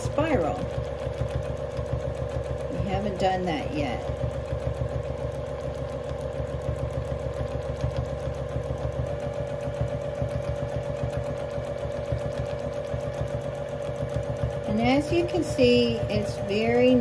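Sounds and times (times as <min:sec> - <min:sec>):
sewing machine stitching: 0:00.0 - 0:17.0.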